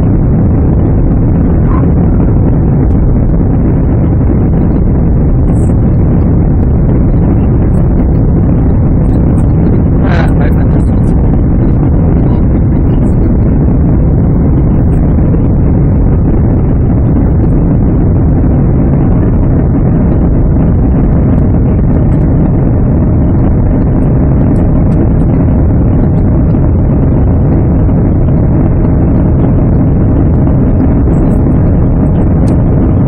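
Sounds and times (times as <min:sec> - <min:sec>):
air rushing: 0:00.0 - 0:33.0
jet engines rumbling: 0:00.0 - 0:33.0.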